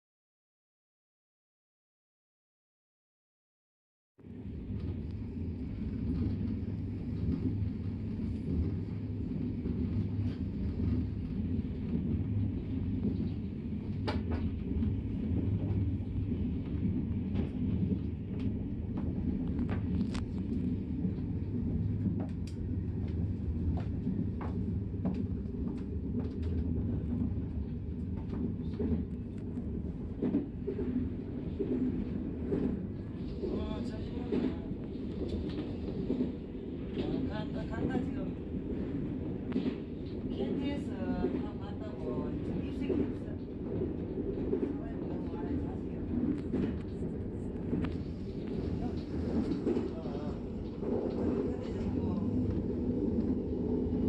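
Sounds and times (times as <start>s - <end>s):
train rumbling on track: 4.2s - 54.0s.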